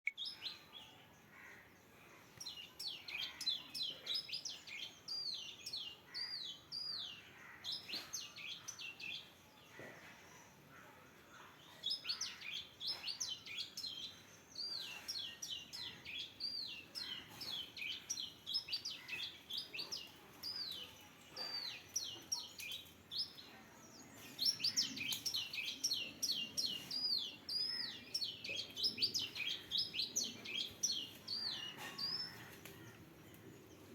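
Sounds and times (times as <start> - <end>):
bird chirping: 0.1 - 33.9.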